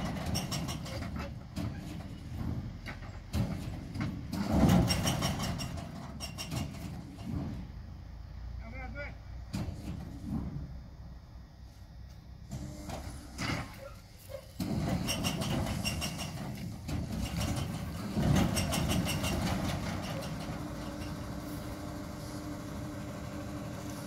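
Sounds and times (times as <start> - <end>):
crane diesel engine running: 0.0 - 24.0.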